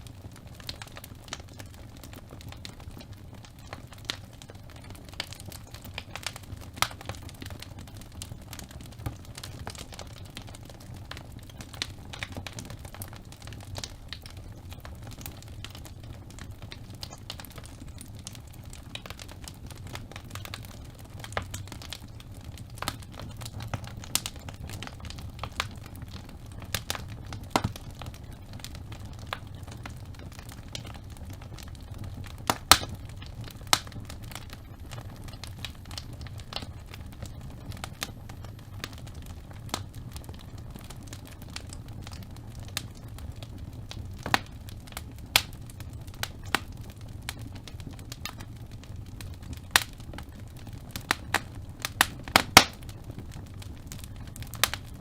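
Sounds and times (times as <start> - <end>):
flames rumbling: 0.0 - 55.0
logs crackling in fireplace: 0.0 - 55.0.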